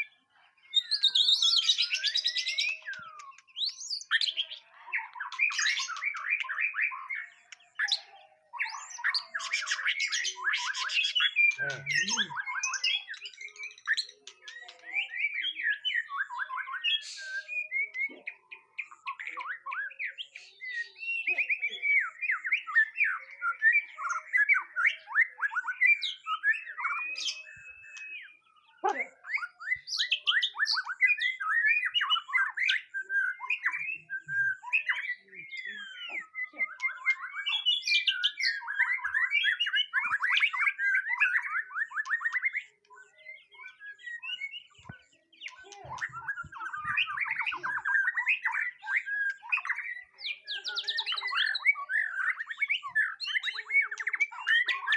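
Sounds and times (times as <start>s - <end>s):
bird singing trills and whistles: 0.0s - 54.9s.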